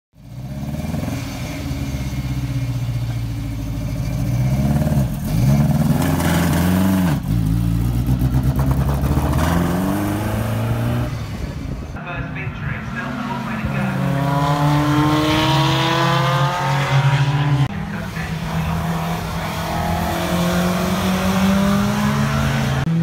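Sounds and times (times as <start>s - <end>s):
race car engine idling and revving: 0.1s - 23.0s.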